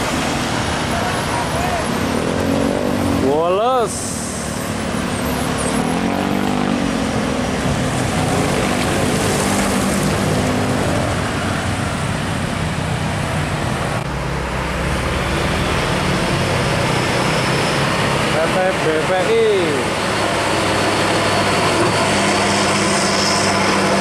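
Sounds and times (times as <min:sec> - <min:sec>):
diesel trucks driving past: 0:00.0 - 0:24.0
road traffic: 0:00.0 - 0:24.0.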